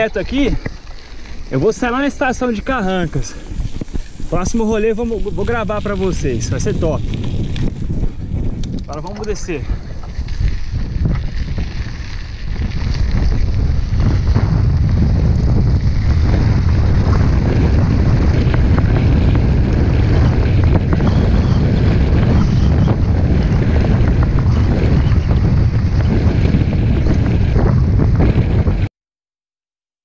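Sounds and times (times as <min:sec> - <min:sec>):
bike rattling and knocking: 0:00.0 - 0:28.9
wind buffeting microphone: 0:00.0 - 0:28.9.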